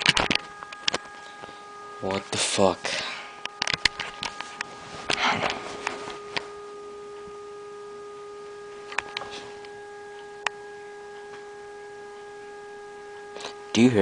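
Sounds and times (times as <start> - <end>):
steady droning tone: 0.0 - 14.0.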